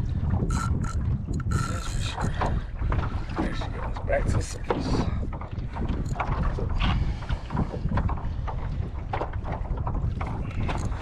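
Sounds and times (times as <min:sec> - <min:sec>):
small waves slapping hull: 0:00.0 - 0:11.0
wind rumbling on microphone: 0:00.0 - 0:11.0.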